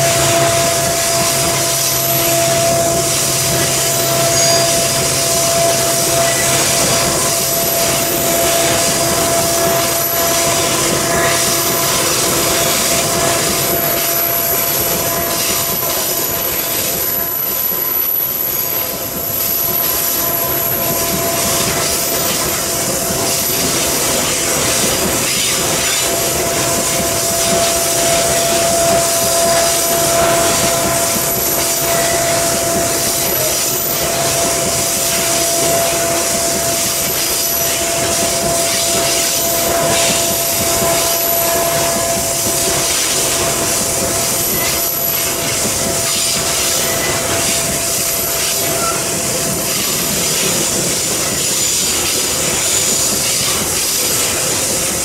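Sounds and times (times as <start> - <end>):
thin wheel squeal: 0.0 - 54.9
train wheels rumbling and clattering: 0.0 - 55.0.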